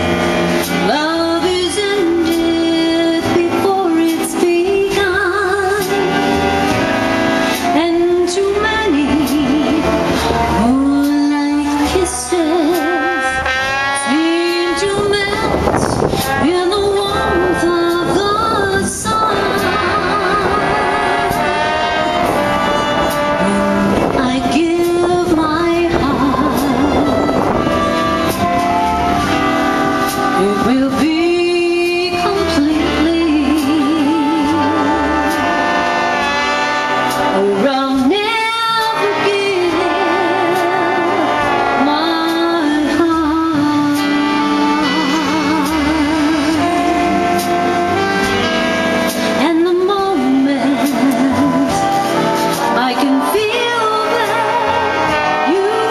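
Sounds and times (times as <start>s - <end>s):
big band swing music: 0.0s - 55.9s
saxophones playing melody: 0.0s - 55.9s
woman singing with vibrato: 0.0s - 55.9s.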